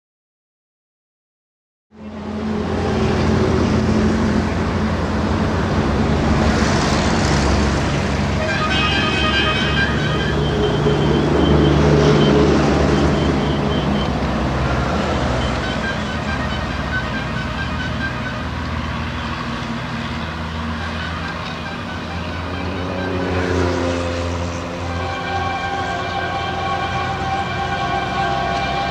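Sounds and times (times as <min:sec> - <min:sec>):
diesel locomotive engine chugging: 0:02.0 - 0:28.9
locomotive horn: 0:02.2 - 0:28.9.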